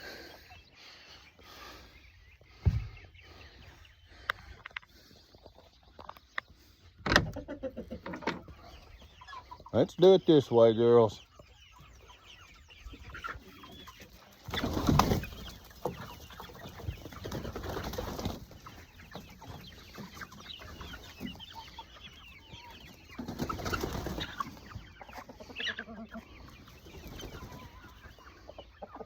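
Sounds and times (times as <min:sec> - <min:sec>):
hens clucking: 0:00.0 - 0:29.0.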